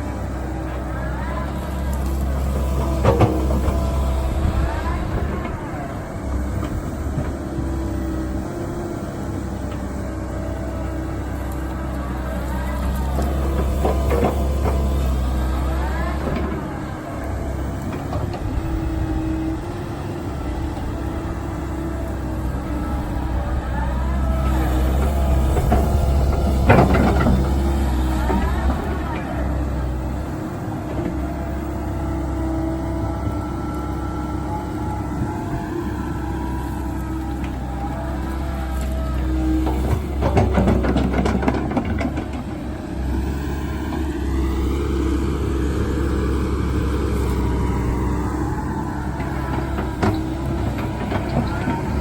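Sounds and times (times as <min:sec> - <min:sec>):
excavator diesel engine hum: 0:00.0 - 0:52.0
hydraulic whines: 0:00.1 - 0:52.0.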